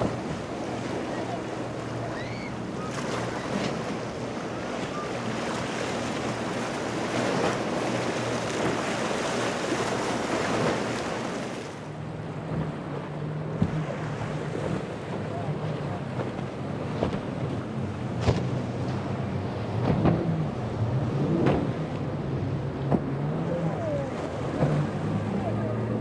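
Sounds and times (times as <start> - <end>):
outboard motors running: 0.0 - 26.0.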